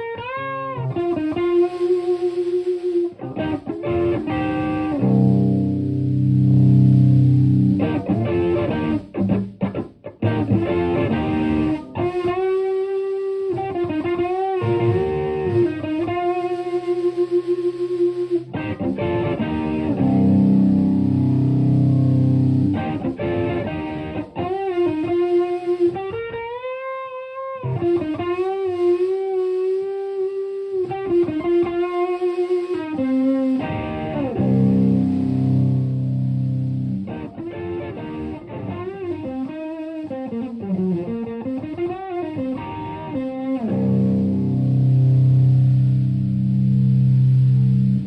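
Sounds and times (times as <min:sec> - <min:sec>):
overdriven electric guitar: 0:00.0 - 0:48.0.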